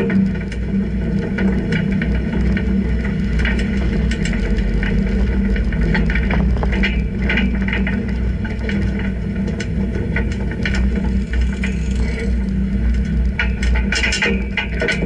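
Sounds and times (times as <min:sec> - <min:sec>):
light ticks and rattles: 0:00.0 - 0:15.0.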